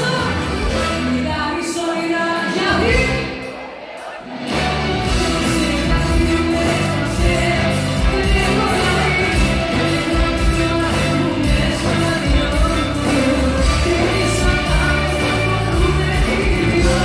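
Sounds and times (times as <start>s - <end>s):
live pop music with singer: 0.0s - 17.0s.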